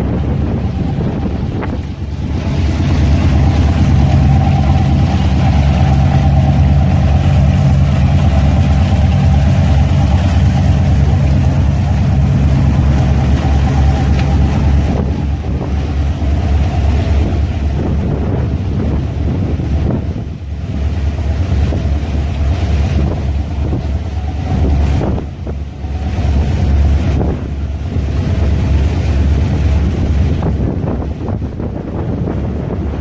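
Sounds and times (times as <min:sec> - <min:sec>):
boat engines droning: 0:00.0 - 0:33.0.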